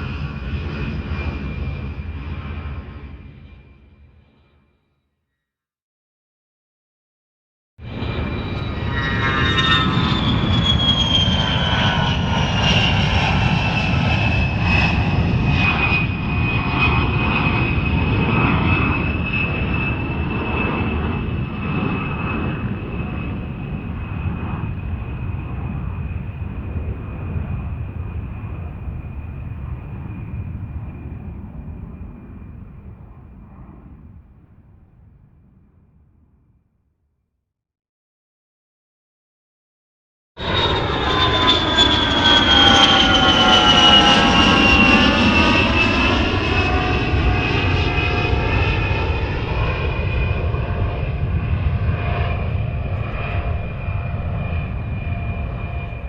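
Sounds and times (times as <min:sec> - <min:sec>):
aircraft engine rumble and whine: 0:00.0 - 0:04.5, 0:07.8 - 0:36.4, 0:40.4 - 0:56.0.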